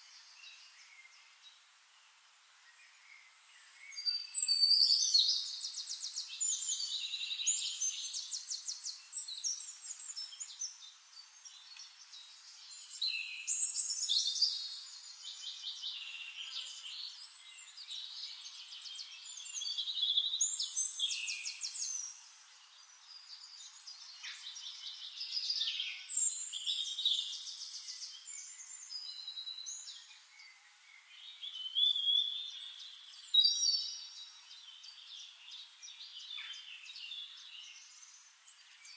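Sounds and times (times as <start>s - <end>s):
songbirds trilling and chirping: 0.0s - 38.9s.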